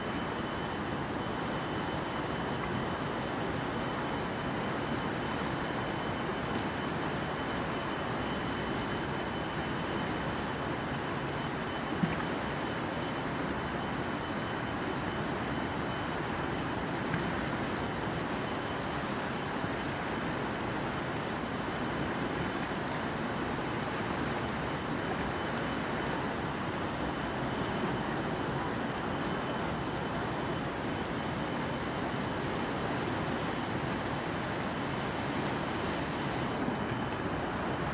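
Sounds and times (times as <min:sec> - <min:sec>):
river rushing over rapids: 0:00.0 - 0:37.9.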